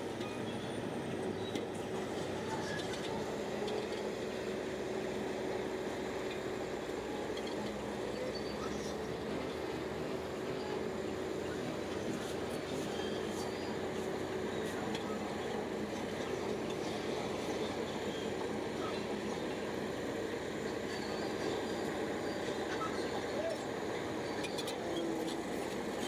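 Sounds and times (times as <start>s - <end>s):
bulldozer engine droning: 0.0s - 26.0s
steady mechanical whine: 0.0s - 26.0s.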